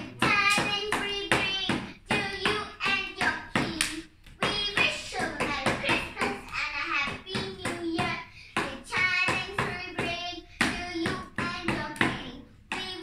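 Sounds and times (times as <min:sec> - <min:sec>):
girl singing in high voice: 0:00.0 - 0:13.0
sharp claps or taps: 0:00.0 - 0:13.0.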